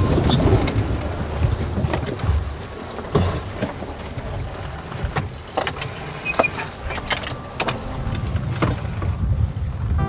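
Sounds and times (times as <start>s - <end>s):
wind and sea rushing: 0.0s - 10.0s.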